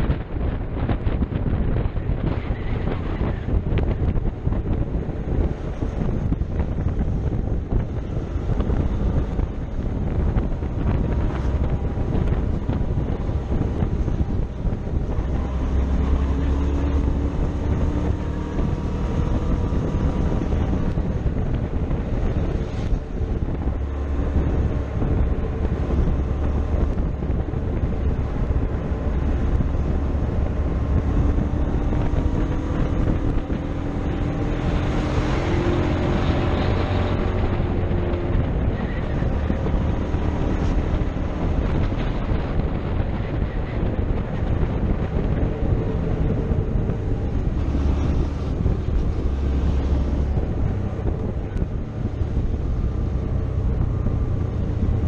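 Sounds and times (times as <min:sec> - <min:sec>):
motorcycle engine accelerating: 0:00.0 - 0:55.0
wind noise on microphone: 0:00.0 - 0:55.0.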